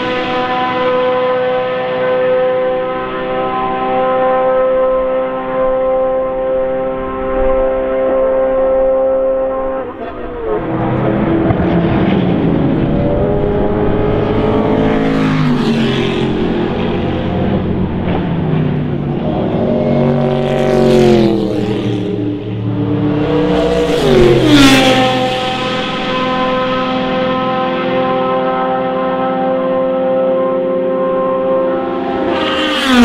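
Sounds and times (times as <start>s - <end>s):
race car engine passing: 0.0s - 33.0s.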